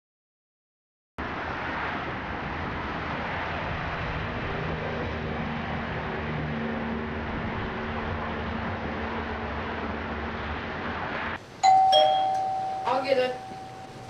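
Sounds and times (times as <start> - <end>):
outdoor hiss and rumble: 1.2 - 14.0.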